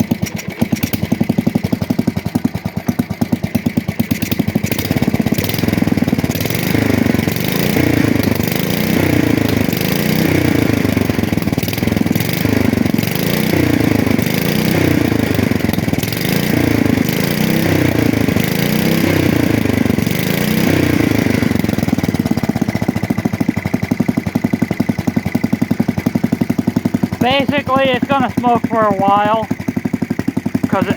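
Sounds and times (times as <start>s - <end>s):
small engine surging: 3.5s - 30.9s.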